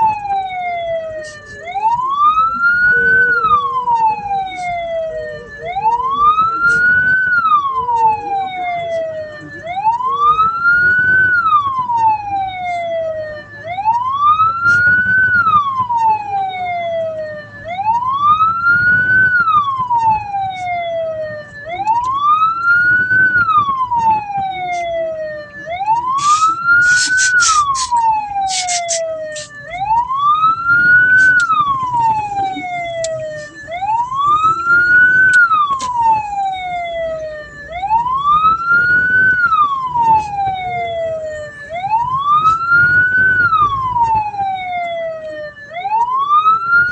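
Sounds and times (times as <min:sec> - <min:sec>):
siren wailing: 0:00.0 - 0:46.9
vehicle hum: 0:00.0 - 0:46.9.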